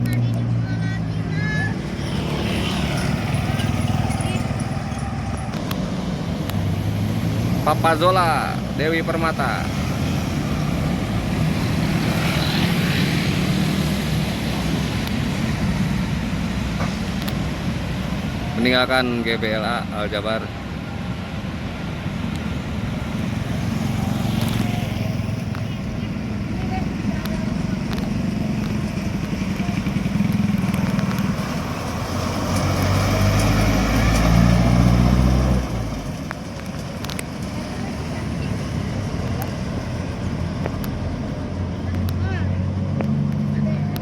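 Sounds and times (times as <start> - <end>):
bus engine rumbling: 0.0 - 44.0
tyre and road noise: 0.0 - 44.0.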